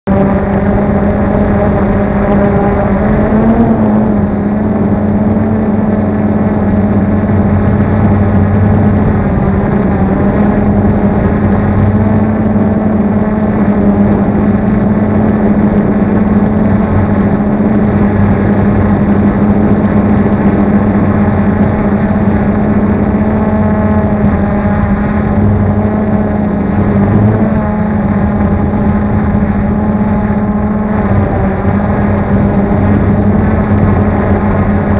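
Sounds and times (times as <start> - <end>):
drone propellers buzzing: 0.0 - 34.9.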